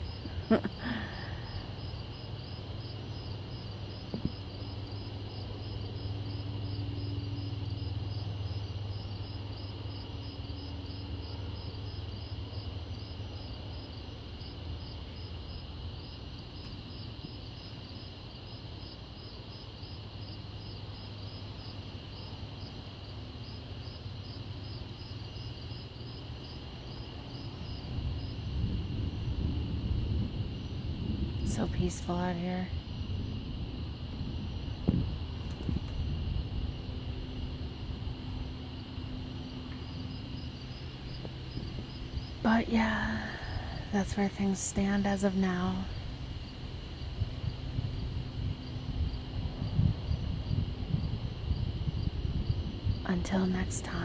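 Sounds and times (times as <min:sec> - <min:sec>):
crickets chirping: 0:00.0 - 0:54.0
insects high trill: 0:00.0 - 0:54.0.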